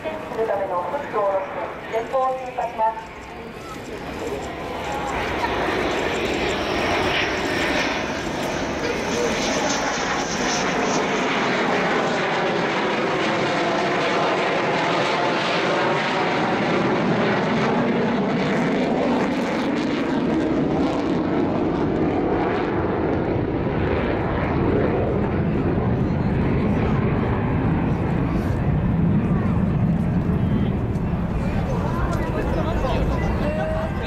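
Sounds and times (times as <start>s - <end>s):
fighter jet passing overhead: 0.0s - 34.0s.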